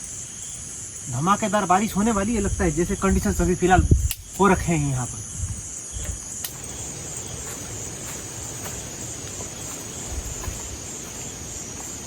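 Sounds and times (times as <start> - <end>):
insects trilling: 0.0 - 12.0
wind rumbling on microphone: 1.7 - 12.0.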